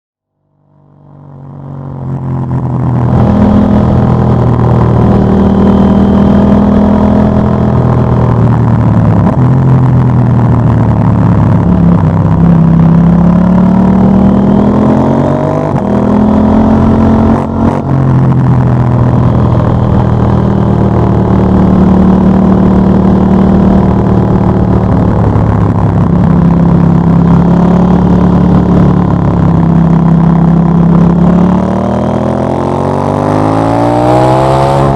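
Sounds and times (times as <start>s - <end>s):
motorcycle engine revving: 1.0s - 34.9s.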